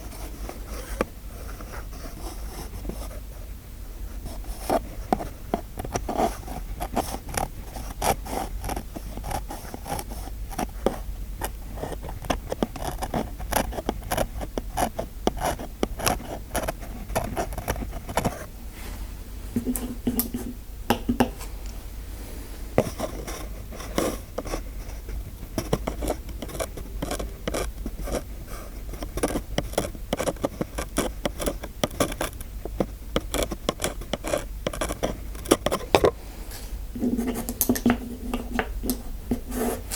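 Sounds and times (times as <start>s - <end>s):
close-miked scraping: 0.0s - 39.9s.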